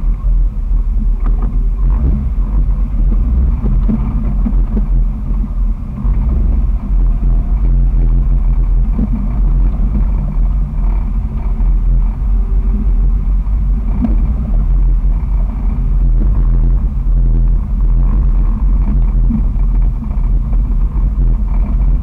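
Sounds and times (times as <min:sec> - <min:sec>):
car exhaust droning: 0:00.0 - 0:22.0.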